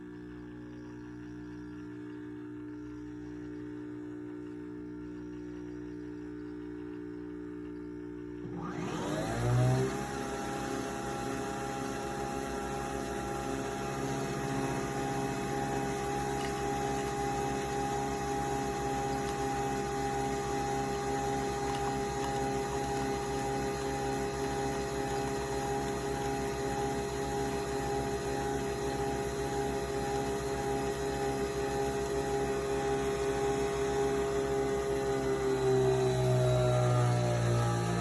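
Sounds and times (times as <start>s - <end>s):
coffee machine motor humming: 0.0s - 38.0s.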